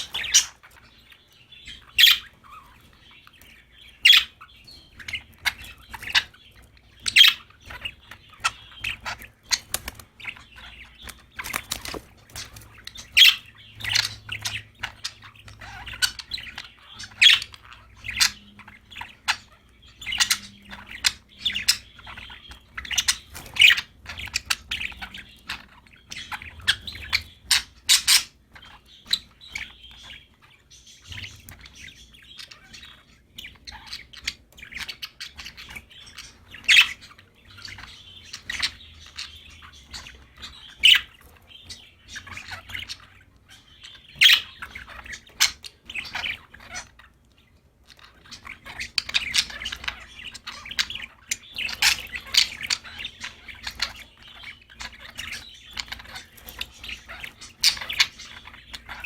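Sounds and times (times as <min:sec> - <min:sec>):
budgerigars chirping and warbling: 0:00.0 - 0:59.0
sharp chirps and squawks: 0:00.0 - 0:59.0.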